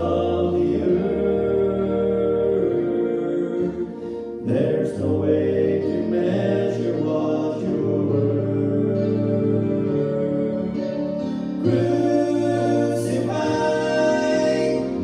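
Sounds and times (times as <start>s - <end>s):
man singing into a microphone: 0.0s - 15.0s
musical accompaniment: 0.0s - 15.0s.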